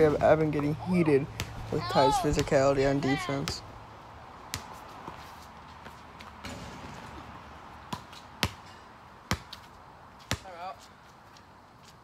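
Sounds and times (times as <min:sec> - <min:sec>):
faint outdoor hiss: 0:00.0 - 0:12.0
basketball bouncing on asphalt: 0:01.2 - 0:11.4.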